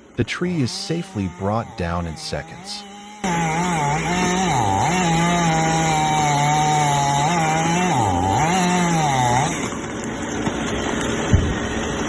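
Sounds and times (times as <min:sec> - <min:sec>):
chainsaw cutting wood: 0:00.5 - 0:12.0.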